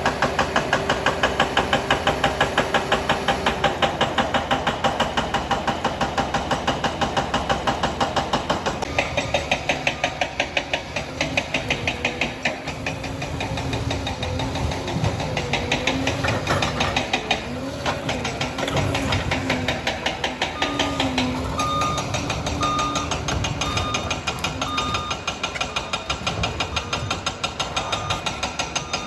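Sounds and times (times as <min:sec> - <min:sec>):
diesel engine running: 0:00.0 - 0:29.0
steel tracks clanking: 0:00.0 - 0:29.0.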